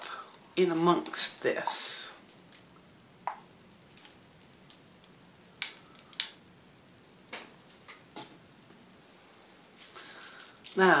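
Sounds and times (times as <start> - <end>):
small ticks and clicks: 0.1 - 10.8.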